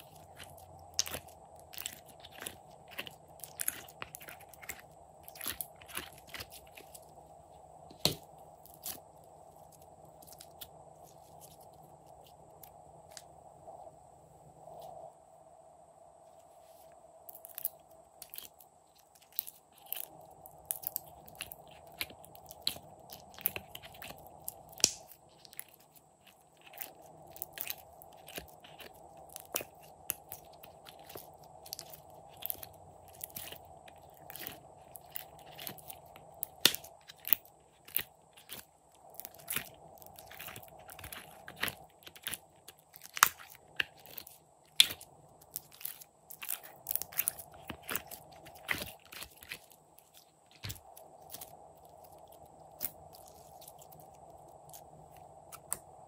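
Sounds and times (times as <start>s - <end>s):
frozen slime crunching and crackling: 0.0s - 7.2s, 7.9s - 13.3s, 17.3s - 56.0s.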